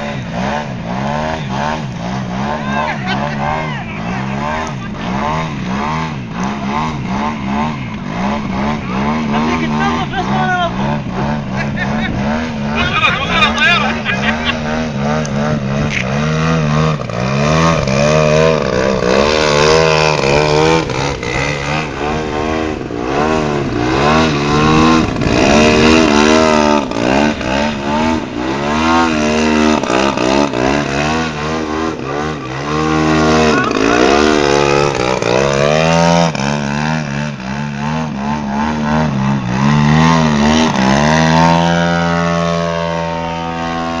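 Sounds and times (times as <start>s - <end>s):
model plane engine revving: 0.0s - 44.0s.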